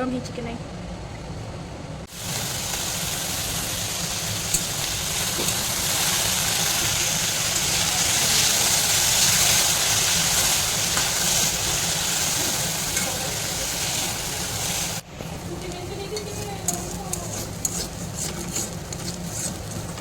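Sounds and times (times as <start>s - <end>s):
food sizzling in oil: 2.1s - 20.0s.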